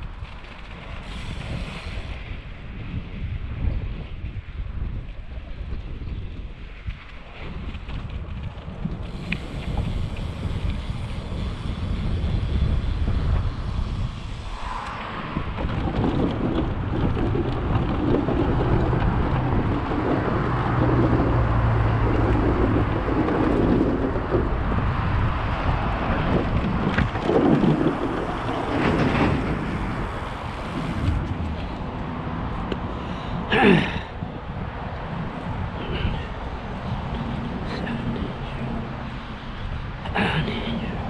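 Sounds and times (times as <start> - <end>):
bike tyres rumbling on pavement: 0.0 - 41.0
wind over microphone: 0.0 - 41.0.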